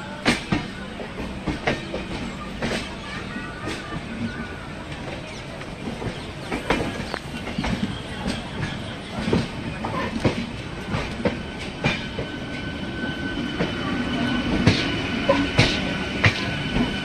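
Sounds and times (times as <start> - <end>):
train rumble: 0.0 - 17.0
train wheels clickety-clack: 0.0 - 17.0.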